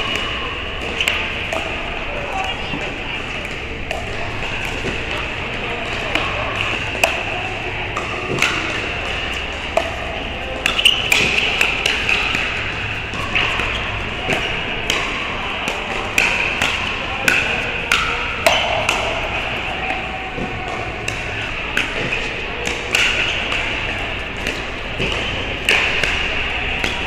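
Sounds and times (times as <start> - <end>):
paddles hitting plastic ball: 3.4 - 27.0.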